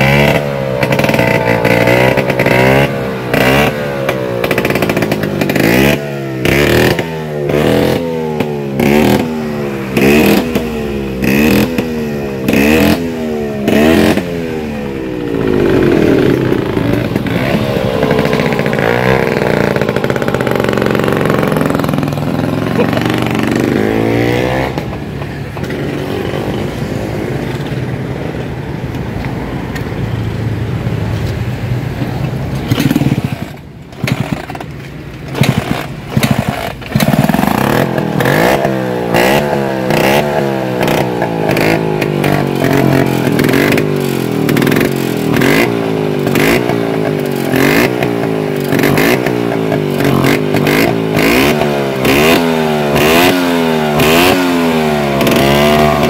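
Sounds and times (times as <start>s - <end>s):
scooter engine revving: 0.0s - 29.8s, 30.6s - 56.0s.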